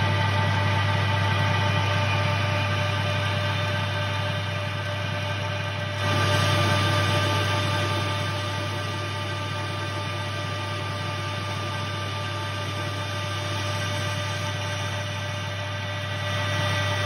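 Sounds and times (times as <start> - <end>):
metal lathe running: 0.0 - 17.0.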